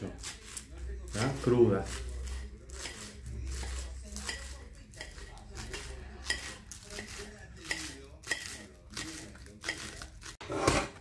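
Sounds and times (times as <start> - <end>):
spoon scraping and clinking cookware: 0.0 - 11.0.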